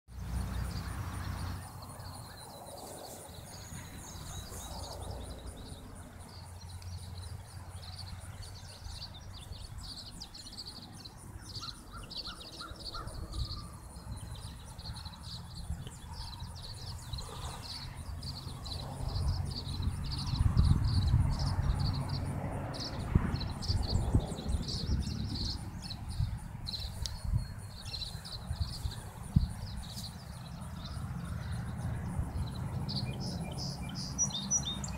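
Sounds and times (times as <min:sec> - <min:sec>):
small birds chirping: 0:00.1 - 0:34.9
wind rumbling on microphone: 0:00.2 - 0:34.9.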